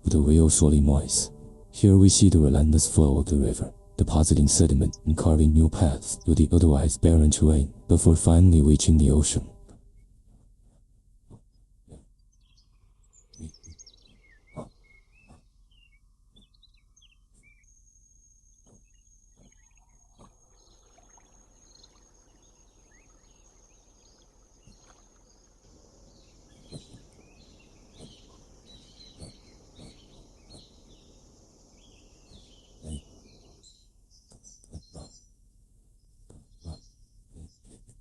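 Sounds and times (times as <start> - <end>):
bird chirps: 0.0 - 9.6, 11.3 - 37.8
high insect buzz: 0.0 - 9.8, 13.0 - 35.3, 36.1 - 37.9.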